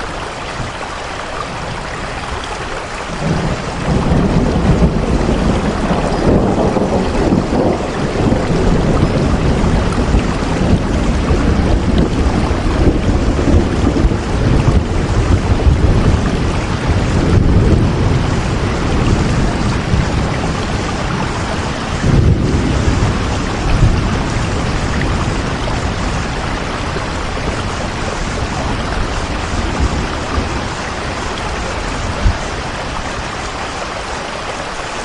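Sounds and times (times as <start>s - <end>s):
thunder rumbling: 0.0s - 34.1s
heavy rain: 0.0s - 35.0s.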